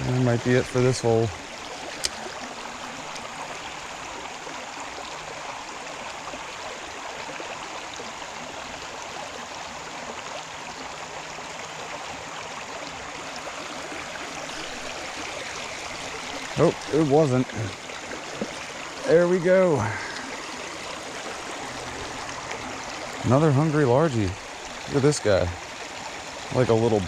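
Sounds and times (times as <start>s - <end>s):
water running over rocks: 0.0s - 27.0s.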